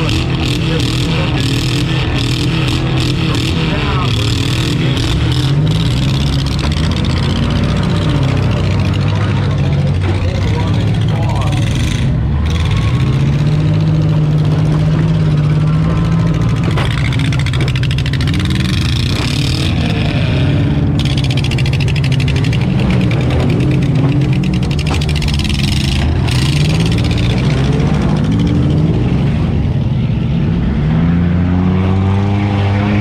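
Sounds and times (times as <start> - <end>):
cars knocking: 0.0 - 30.0
car engines revving: 0.0 - 33.0.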